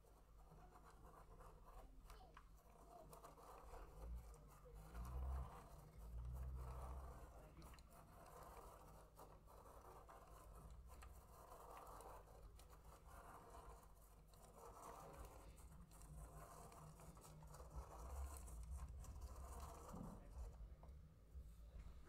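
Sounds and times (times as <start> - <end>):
pen scratching on paper: 0.0 - 20.8.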